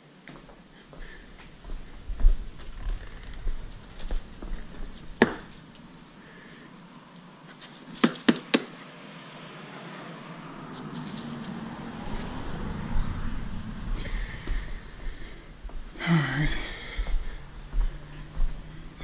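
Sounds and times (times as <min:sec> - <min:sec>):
faint rushing noise: 0:00.0 - 0:08.0, 0:08.7 - 0:19.0.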